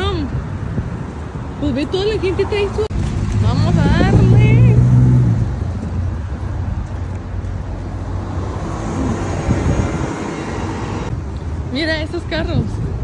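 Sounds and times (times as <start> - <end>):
passing road traffic: 0.0 - 13.0
bus diesel engine humming: 0.9 - 13.0.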